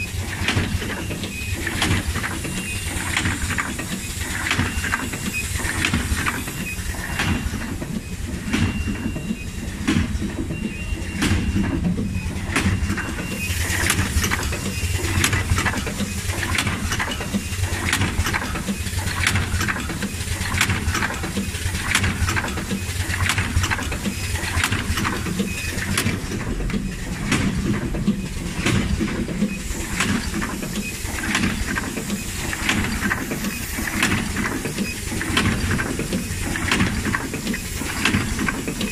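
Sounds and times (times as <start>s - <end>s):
machine clacks: 0.0s - 38.9s.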